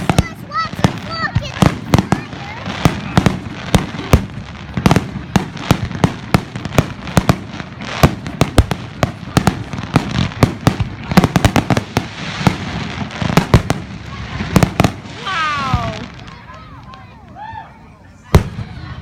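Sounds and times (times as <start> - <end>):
fireworks bangs and pops: 0.0 - 17.4, 18.2 - 19.0
fireworks crackling: 0.0 - 19.0.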